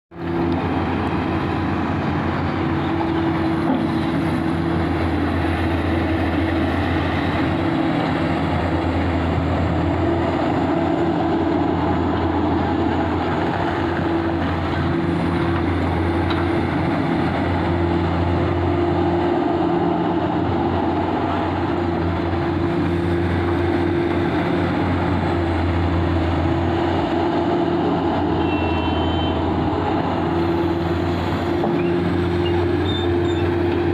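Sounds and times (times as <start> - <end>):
excavator diesel engine drone: 0.1 - 33.9.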